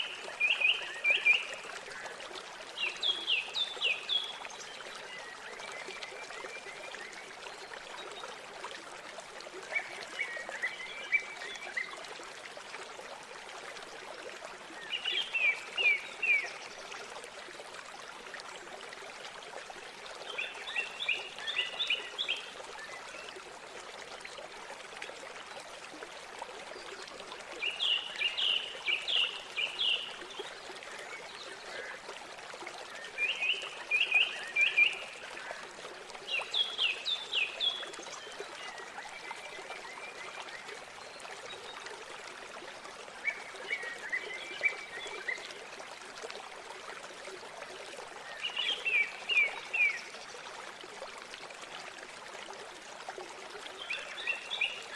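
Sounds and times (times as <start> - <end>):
river water flowing: 0.0 - 54.9.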